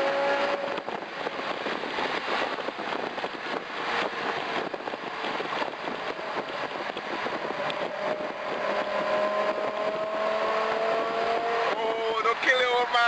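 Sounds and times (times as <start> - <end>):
car engine: 0.0 - 13.0
crackly exhaust rush: 0.0 - 13.0
wind and road noise: 0.0 - 13.0.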